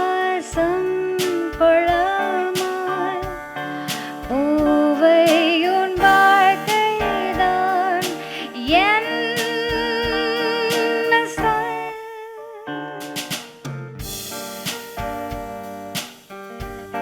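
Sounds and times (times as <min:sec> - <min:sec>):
drum hits: 0:00.0 - 0:11.7, 0:13.1 - 0:17.0.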